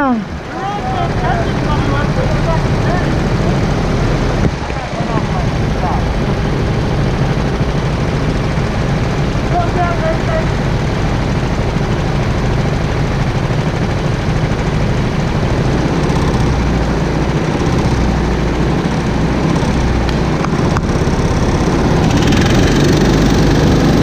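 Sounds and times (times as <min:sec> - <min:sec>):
go-kart engines idling: 0:00.0 - 0:24.0.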